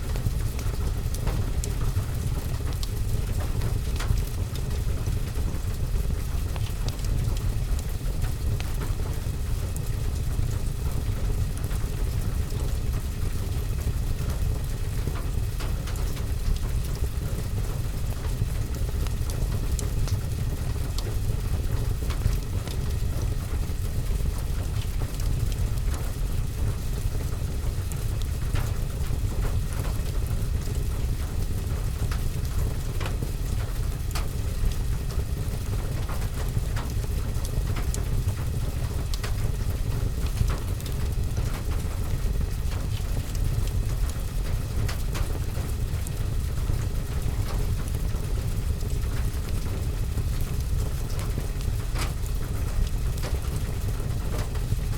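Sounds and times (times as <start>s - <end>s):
steady rain: 0.0s - 54.9s
fire crackling: 0.1s - 54.9s.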